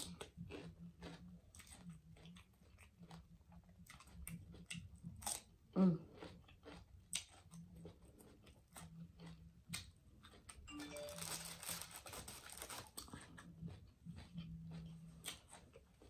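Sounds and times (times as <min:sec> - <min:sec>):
mouth chewing sounds: 0:00.0 - 0:11.1, 0:12.5 - 0:16.0.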